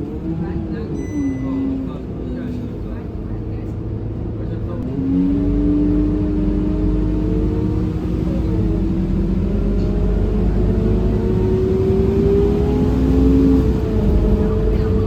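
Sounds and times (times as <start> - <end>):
bus engine rumble and whine: 0.0 - 15.0.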